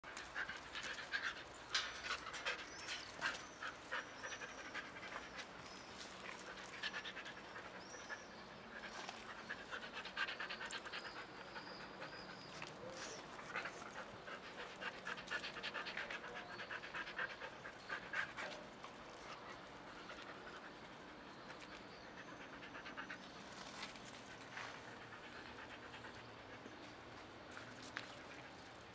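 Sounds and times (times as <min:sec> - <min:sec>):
dog panting: 0:00.1 - 0:23.6.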